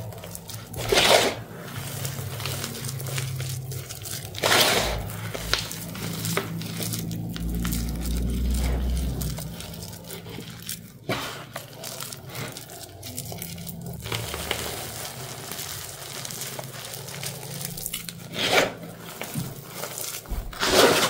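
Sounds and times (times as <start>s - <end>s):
crunchy clumps crunching in hands: 0.0s - 21.0s.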